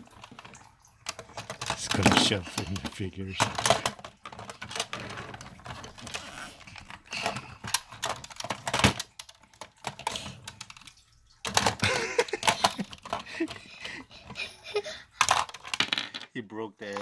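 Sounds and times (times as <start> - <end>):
plastic toy figures clicking: 0.0 - 17.0.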